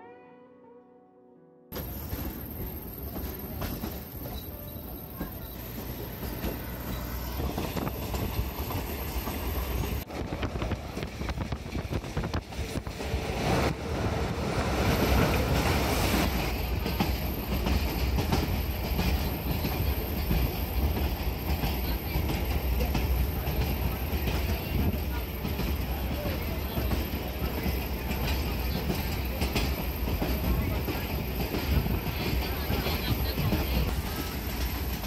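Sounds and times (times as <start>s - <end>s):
wheels clacking over rail joints: 1.7s - 13.1s, 15.0s - 35.0s
train rumbling: 1.7s - 35.0s.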